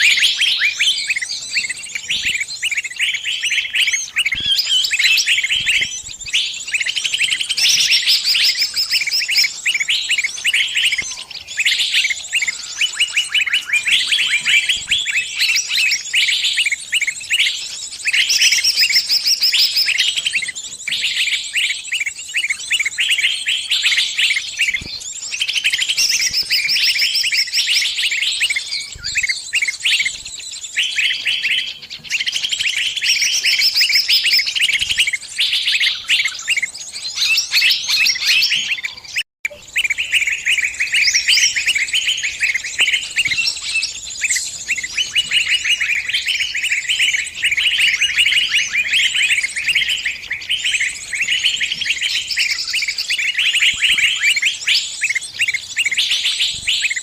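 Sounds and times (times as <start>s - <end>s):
bird distress chirps: 0.0s - 57.0s.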